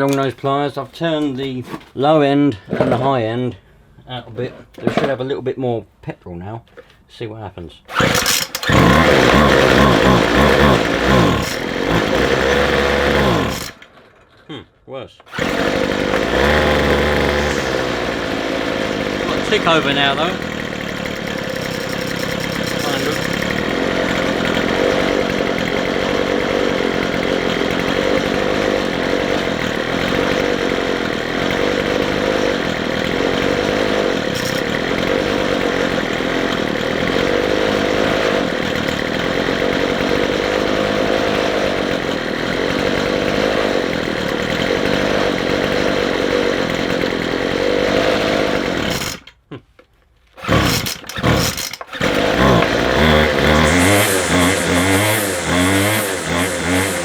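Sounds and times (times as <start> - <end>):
strimmer engine idling roughly: 7.9 - 14.0, 15.3 - 49.3, 50.4 - 57.0.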